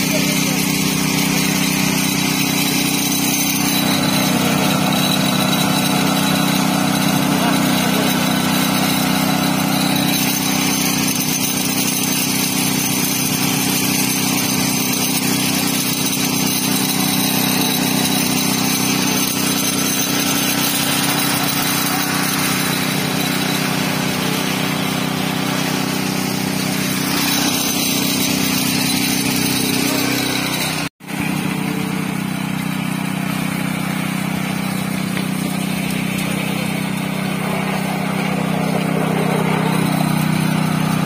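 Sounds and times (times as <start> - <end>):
small petrol engine droning: 0.0 - 41.0.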